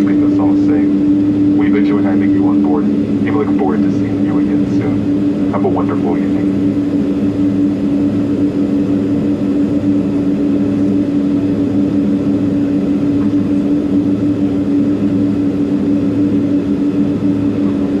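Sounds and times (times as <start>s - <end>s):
jet engines idling cabin hum: 0.0s - 18.0s.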